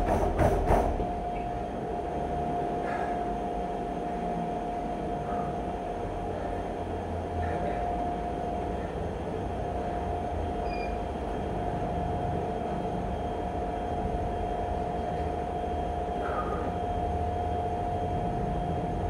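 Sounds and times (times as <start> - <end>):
treadmill motor and belt running: 0.0 - 19.0.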